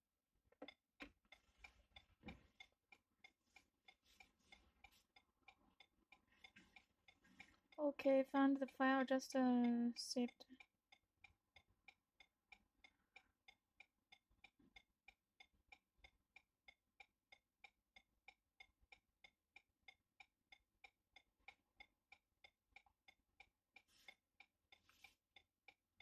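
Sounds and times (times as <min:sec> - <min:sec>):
faint steady ticking: 0:00.5 - 0:26.0.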